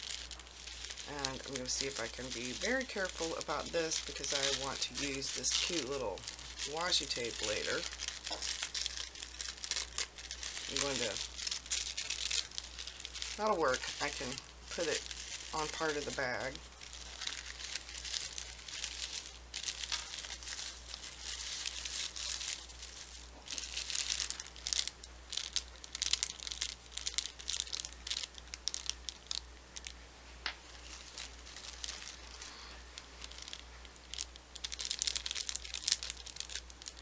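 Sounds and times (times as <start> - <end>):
packaging rustling and crinkling: 0.0 - 37.0.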